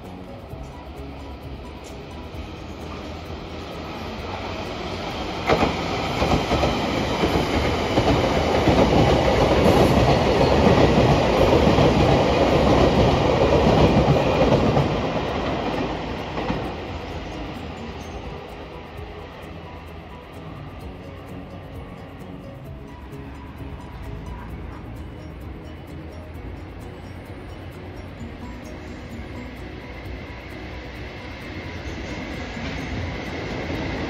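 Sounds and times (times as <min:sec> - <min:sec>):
train passing on rails: 0:00.0 - 0:34.0.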